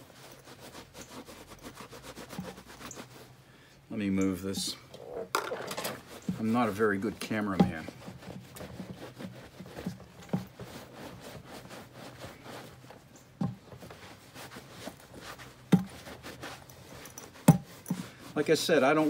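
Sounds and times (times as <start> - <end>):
towel scrubbing leather boot: 0.0 - 4.8, 5.8 - 19.0.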